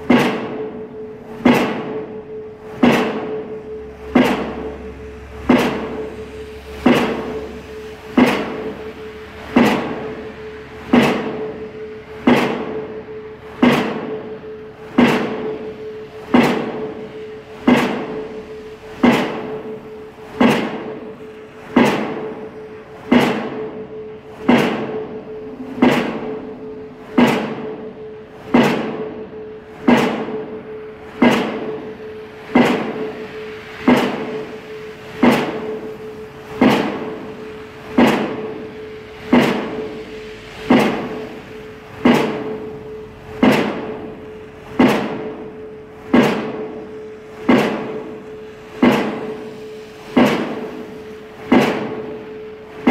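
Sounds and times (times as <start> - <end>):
pile hammer blows: 0.0 - 52.9
steady hum: 0.0 - 52.9.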